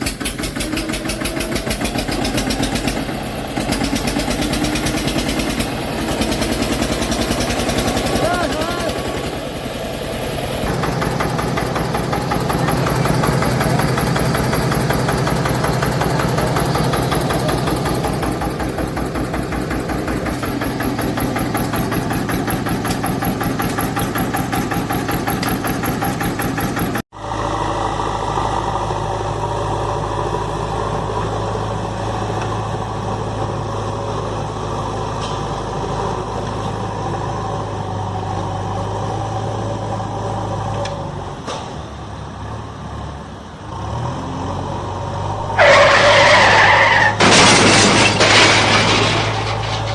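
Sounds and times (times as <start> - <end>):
second engine running: 0.0 - 49.9
vehicle engine running: 0.0 - 49.9.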